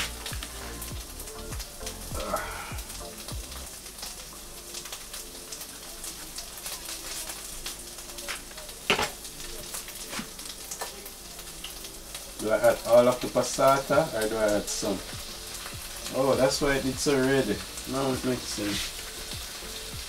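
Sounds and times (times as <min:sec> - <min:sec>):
paste sizzling in a pan: 0:00.0 - 0:20.0.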